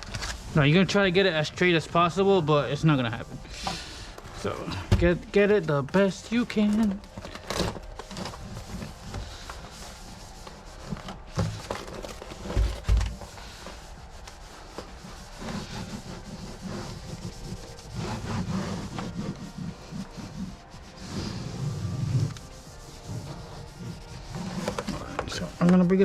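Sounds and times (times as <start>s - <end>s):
sheet rubbing and crinkling: 0.0s - 26.0s.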